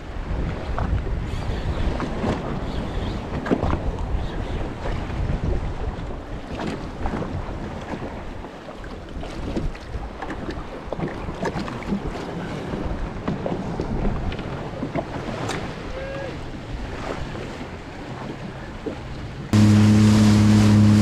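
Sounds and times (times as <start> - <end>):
wind buffeting microphone: 0.0 - 18.4
water lapping against boat hull: 0.0 - 21.0.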